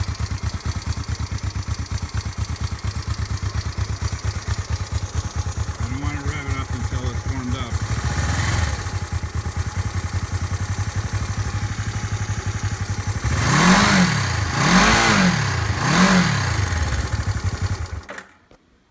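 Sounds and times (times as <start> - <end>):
motorcycle engine idling: 0.0 - 18.2
engine revving: 1.0 - 18.2.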